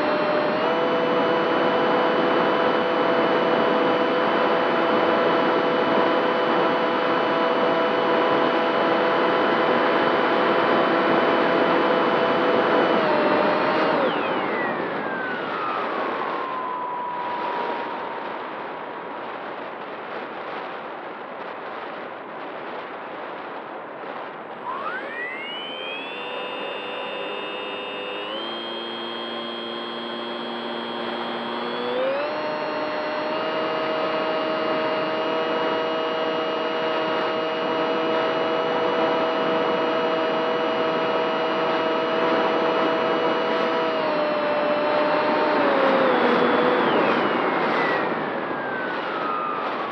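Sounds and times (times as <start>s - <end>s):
model plane motor whining: 0.0s - 18.4s, 24.5s - 49.9s.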